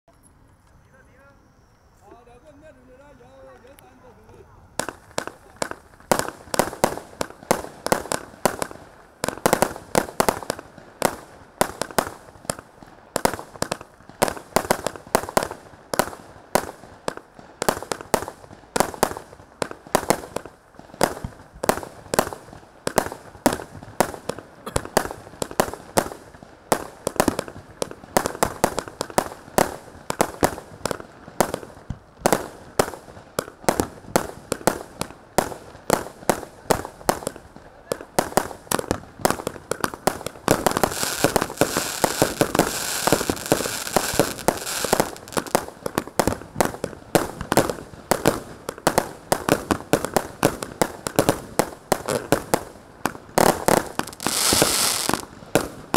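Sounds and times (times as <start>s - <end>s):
fireworks cake firing shots: 4.8s - 55.9s.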